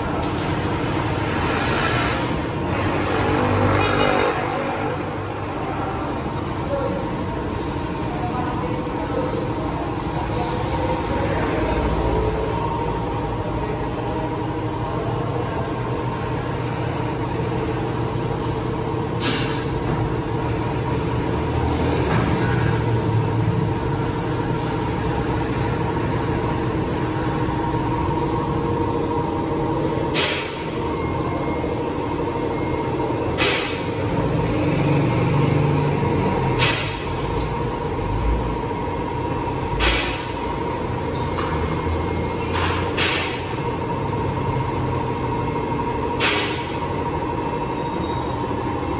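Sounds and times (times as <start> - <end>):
workshop hum: 0.0 - 48.9.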